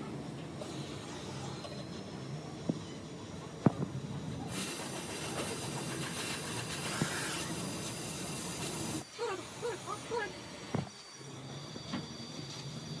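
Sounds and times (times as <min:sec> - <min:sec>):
steady hiss: 0:00.1 - 0:13.0.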